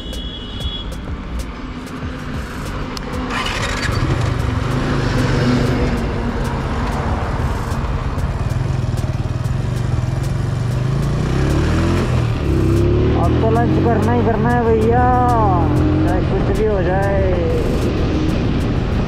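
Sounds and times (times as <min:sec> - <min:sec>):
motorcycle engine starting and running: 0:02.2 - 0:19.0.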